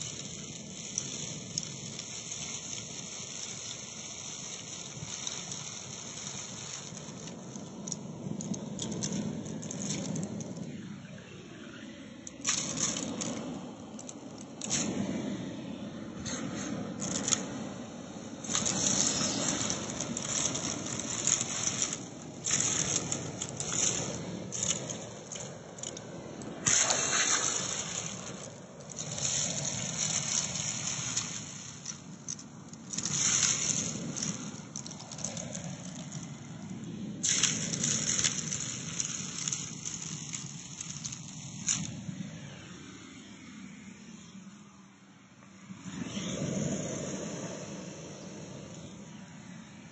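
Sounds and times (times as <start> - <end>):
grains rattling up vacuum hose: 0.0 - 44.3.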